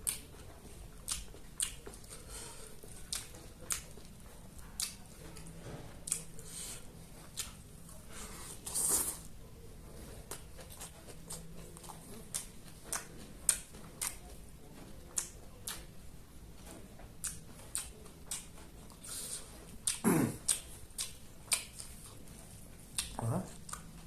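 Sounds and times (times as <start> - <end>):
person chewing with mouth clicks: 0.0 - 9.4, 10.0 - 16.0, 16.6 - 24.0.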